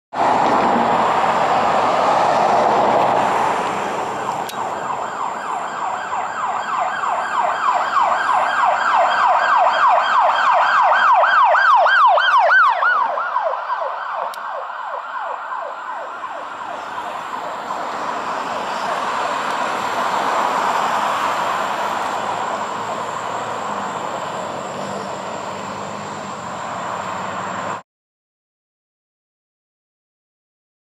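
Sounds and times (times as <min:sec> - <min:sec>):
road traffic noise: 0:00.1 - 0:27.8
police siren yelping: 0:01.3 - 0:27.8.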